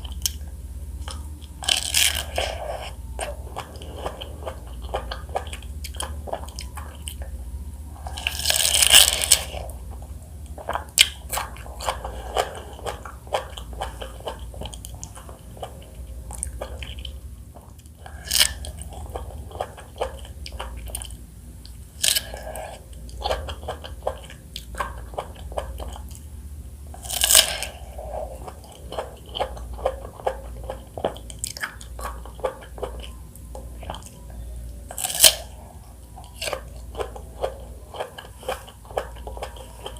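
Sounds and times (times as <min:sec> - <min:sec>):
chewing and biting juicy fruit: 0:00.0 - 0:39.9.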